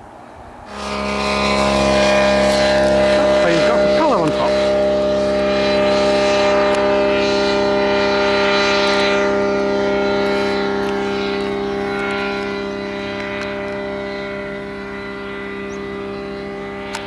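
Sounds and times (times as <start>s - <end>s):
glider engine and propeller droning: 0.0s - 17.0s.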